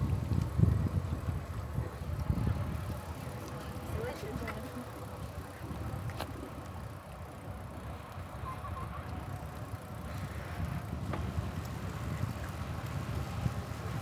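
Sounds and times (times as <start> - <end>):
wind buffeting microphone: 0.0 - 6.8, 8.4 - 14.0
bicycle tyre noise on road: 0.0 - 14.0.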